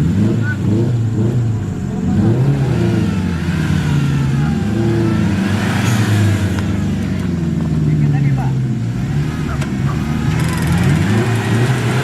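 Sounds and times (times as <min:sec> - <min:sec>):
engine revving under load: 0:00.0 - 0:12.0.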